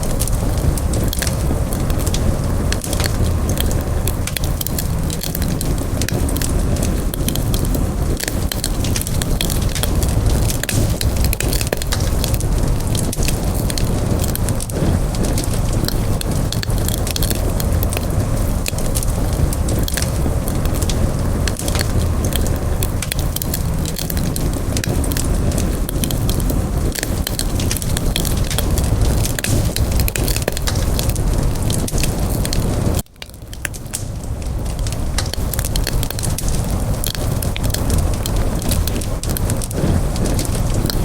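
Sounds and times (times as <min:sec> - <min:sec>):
low rumble of flame: 0:00.0 - 0:41.0
wood crackling and popping: 0:00.0 - 0:41.0.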